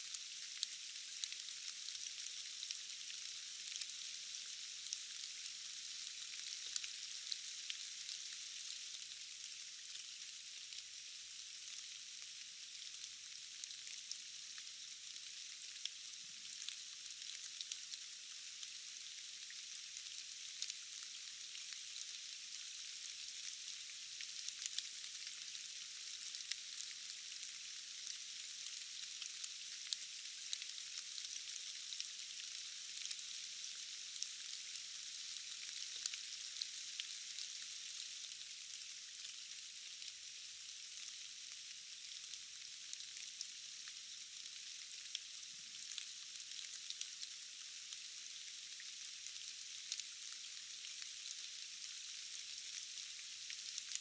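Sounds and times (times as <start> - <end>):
steady rain in a forest: 0.0 - 54.0.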